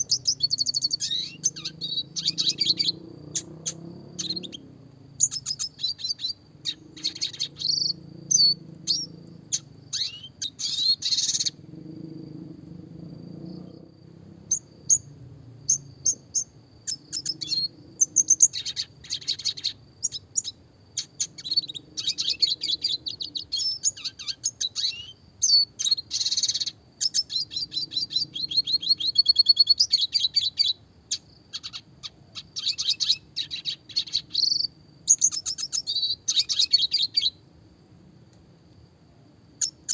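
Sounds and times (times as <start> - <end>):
bird singing chirps and trills: 0.0 - 37.4, 39.6 - 39.9.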